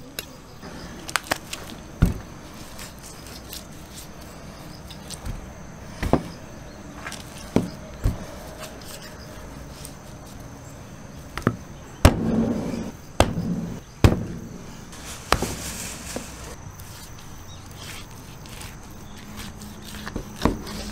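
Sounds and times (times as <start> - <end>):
handling noise: 0.6 - 10.6, 11.2 - 20.9.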